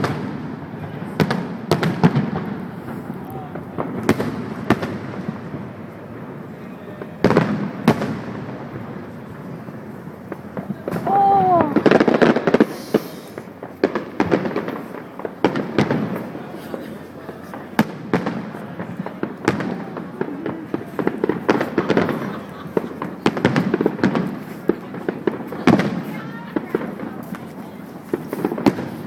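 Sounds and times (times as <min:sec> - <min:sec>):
fireworks bursting with echo: 0:00.0 - 0:29.0.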